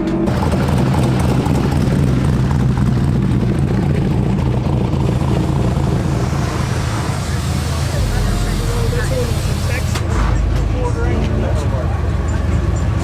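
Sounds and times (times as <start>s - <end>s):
loud engine pulsing: 0.0s - 13.0s.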